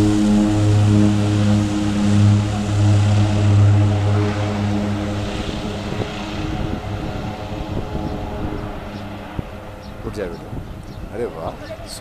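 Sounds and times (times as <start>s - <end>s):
turboprop engines humming: 0.0s - 12.0s.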